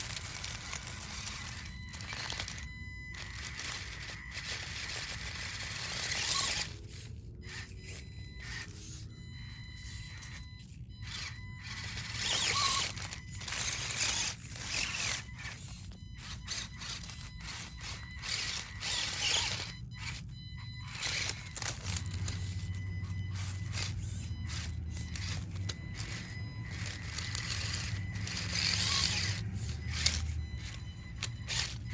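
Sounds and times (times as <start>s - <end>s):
toy car tires scraping and sliding: 0.0s - 31.9s.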